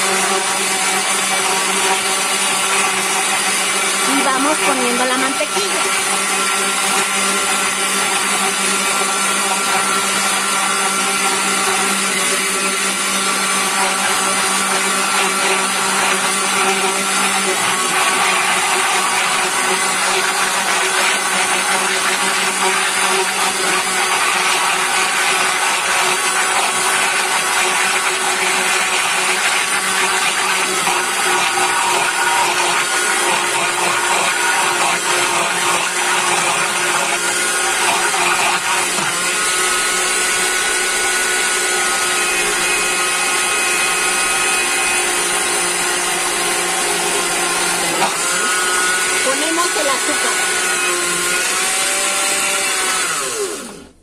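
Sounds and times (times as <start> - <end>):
blender whirring: 0.0 - 54.0.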